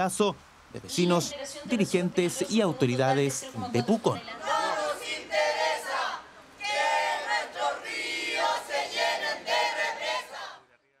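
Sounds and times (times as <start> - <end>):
protesters chanting: 1.3 - 10.7.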